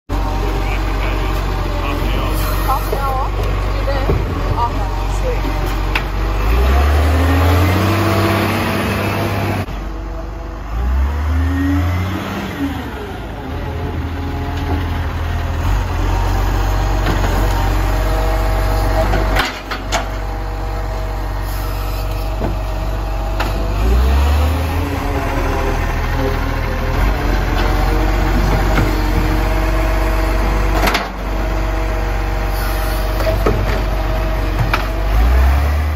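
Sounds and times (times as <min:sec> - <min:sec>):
garbage truck diesel engine revving: 0:00.1 - 0:35.9.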